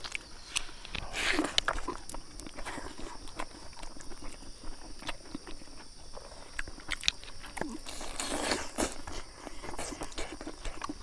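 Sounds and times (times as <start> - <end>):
chewing with wet smacks: 0.0 - 11.0.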